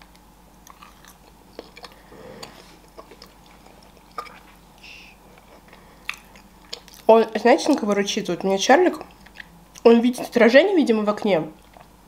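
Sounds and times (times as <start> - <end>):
close chewing with wet mouth sounds: 0.0 - 10.4, 11.2 - 12.0.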